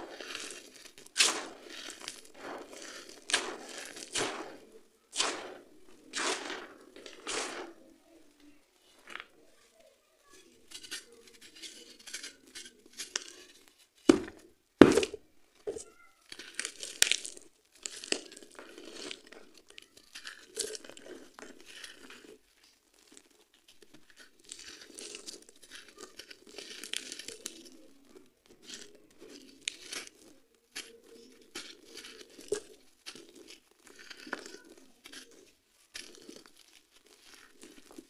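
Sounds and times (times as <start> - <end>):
crunching and grinding of grit: 0.0 - 38.0.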